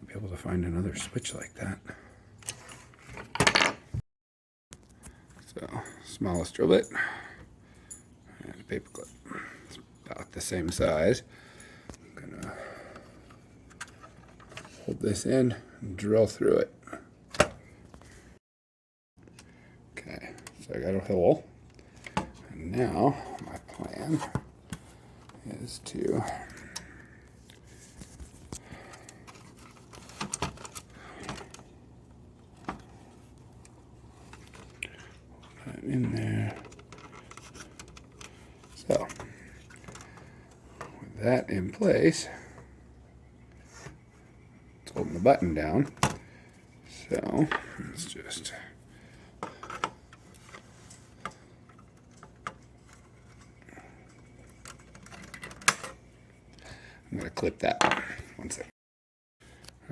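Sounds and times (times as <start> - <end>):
faint steady hum: 4.8 - 18.4, 19.2 - 58.7.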